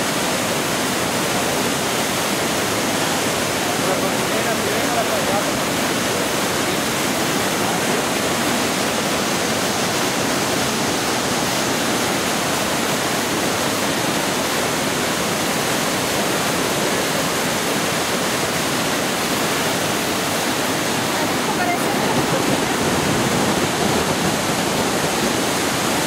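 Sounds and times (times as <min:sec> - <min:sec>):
waterfall rushing loudly: 0:00.0 - 0:26.0.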